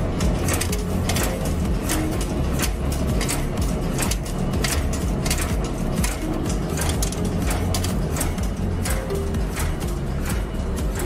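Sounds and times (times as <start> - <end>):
machine low hum: 0.0 - 11.0.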